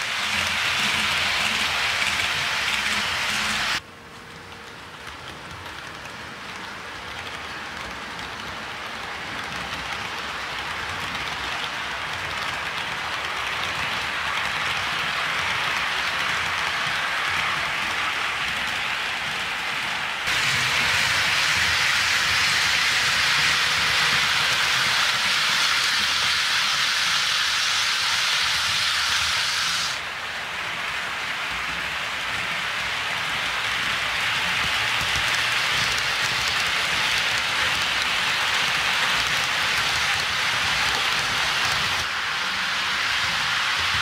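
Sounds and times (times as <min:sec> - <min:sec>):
model train wheels on rails: 0:00.0 - 0:44.0.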